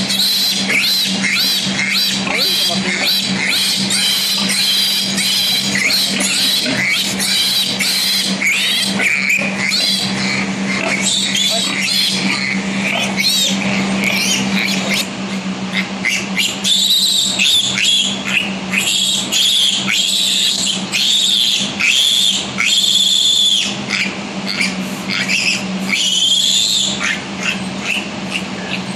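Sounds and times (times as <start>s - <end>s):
piglet squealing: 0.0s - 28.9s
steady low hum: 0.0s - 28.9s.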